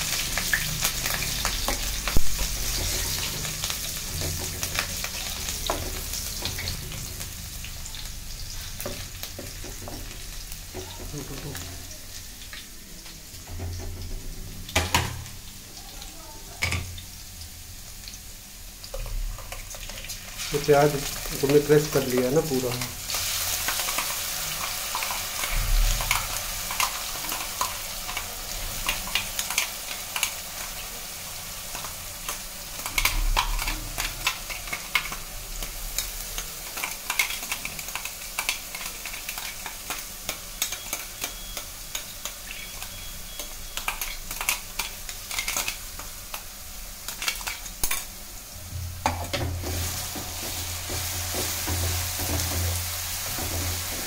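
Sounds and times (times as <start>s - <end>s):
onion paste sizzling in oil: 0.0s - 54.0s.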